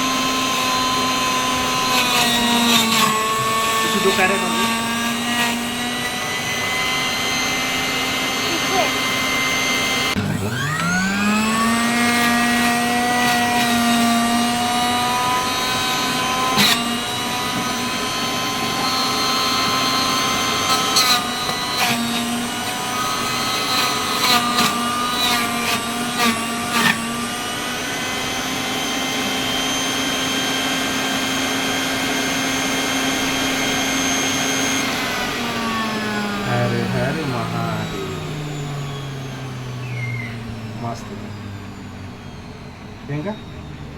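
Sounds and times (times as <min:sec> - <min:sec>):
mixer grinder motor whining: 0:00.0 - 0:43.9.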